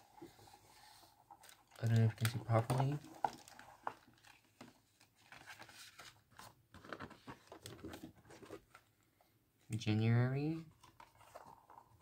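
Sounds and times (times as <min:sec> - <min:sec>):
paper rustling: 0:00.0 - 0:08.8, 0:10.7 - 0:12.0.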